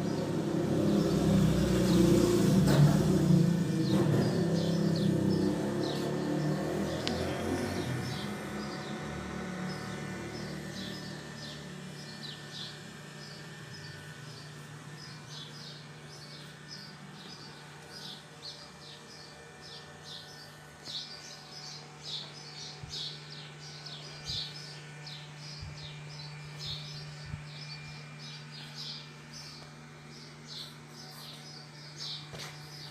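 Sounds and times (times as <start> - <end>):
small birds chirping: 0.0 - 32.9
steady low hum: 0.0 - 32.9.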